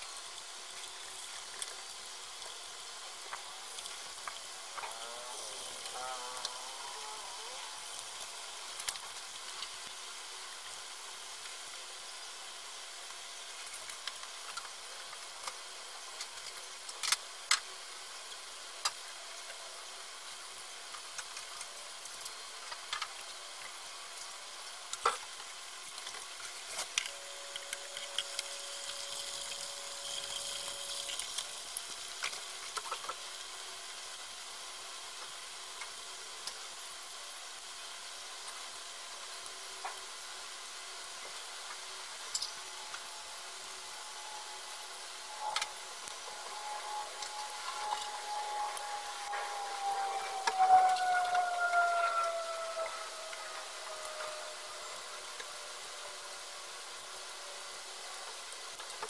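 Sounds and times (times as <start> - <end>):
meatballs sizzling in oil: 0.0 - 50.0.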